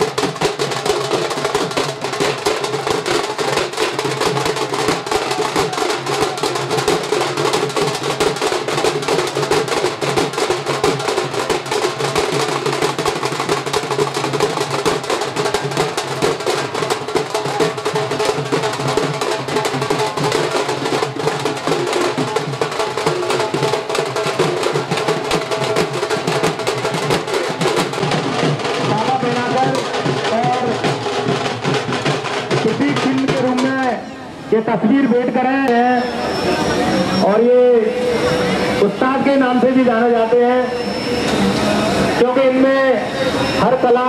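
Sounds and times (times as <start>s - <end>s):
fast drumming: 0.0s - 35.8s.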